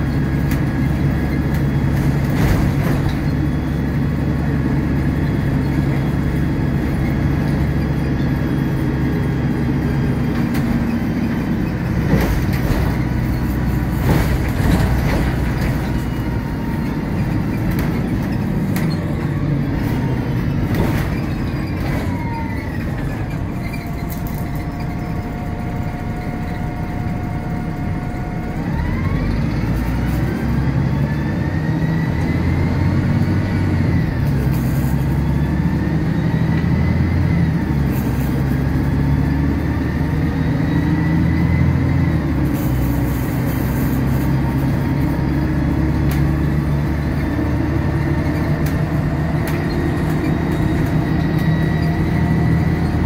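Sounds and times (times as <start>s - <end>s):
bus diesel engine rumbling: 0.0s - 53.0s
engine whine through gears: 0.0s - 53.0s.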